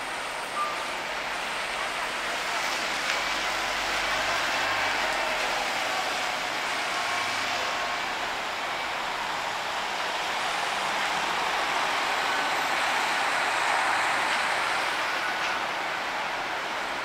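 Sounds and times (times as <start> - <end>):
city bus moving slowly: 0.0 - 17.0
traffic hiss on wet street: 0.0 - 17.0.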